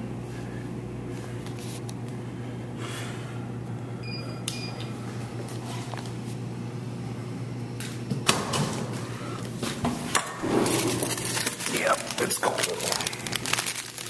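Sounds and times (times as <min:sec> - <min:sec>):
vending machine motor: 0:00.0 - 0:14.0.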